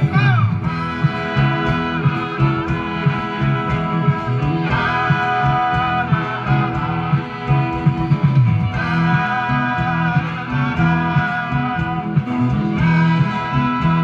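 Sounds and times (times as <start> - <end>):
guitar-led band instrumental: 0.0 - 14.0.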